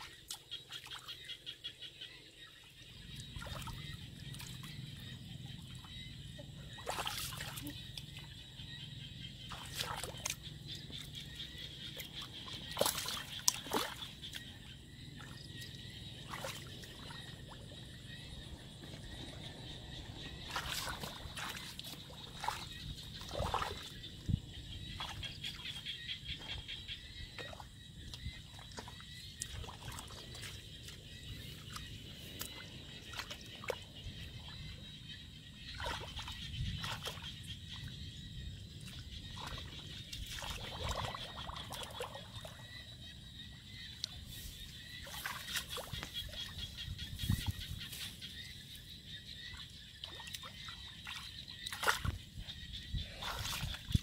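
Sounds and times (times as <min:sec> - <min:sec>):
water sloshing and splashing: 0:02.7 - 0:54.0.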